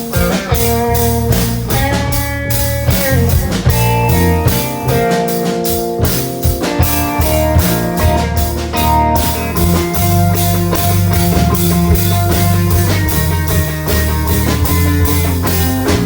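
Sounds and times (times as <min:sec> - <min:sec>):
drum hits: 0:00.0 - 0:16.0
live rock band: 0:00.0 - 0:16.0.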